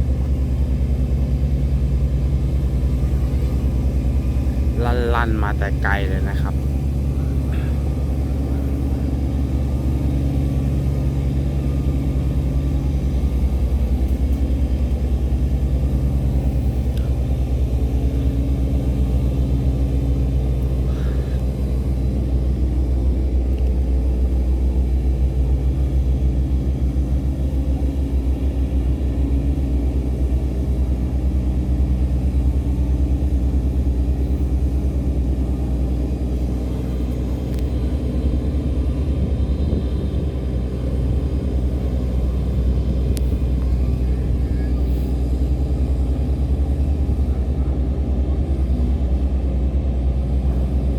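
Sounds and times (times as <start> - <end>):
diesel boat engines droning: 0.0 - 50.9.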